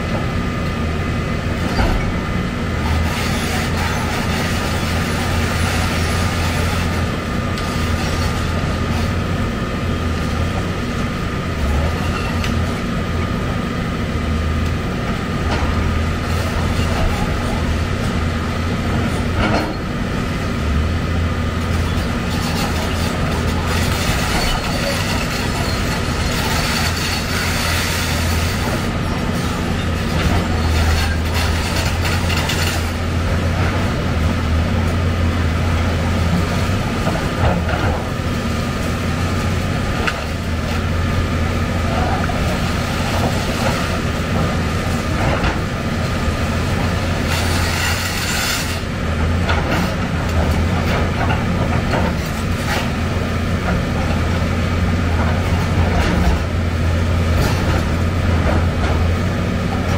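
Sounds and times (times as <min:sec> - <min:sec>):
excavator diesel engine running: 0:00.0 - 0:59.9
grinding and scraping of demolition: 0:01.5 - 0:59.9.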